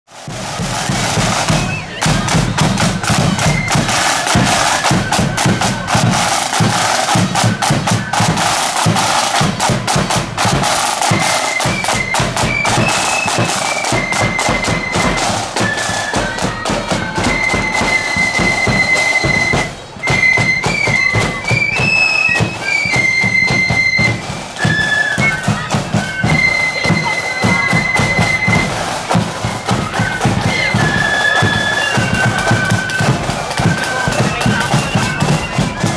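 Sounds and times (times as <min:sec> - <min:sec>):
drums rapid beat: 0:00.1 - 0:35.9
flutes high melody: 0:00.1 - 0:35.9.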